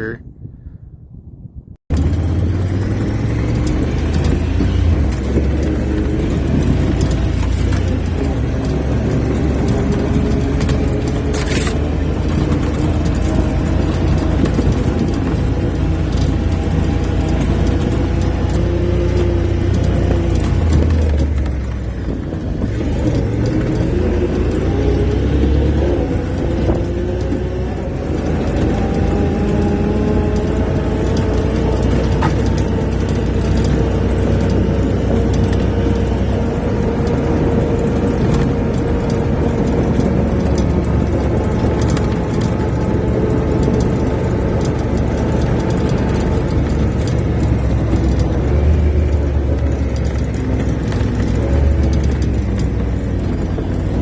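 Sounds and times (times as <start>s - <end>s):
heavy low rumble: 0.0s - 54.0s.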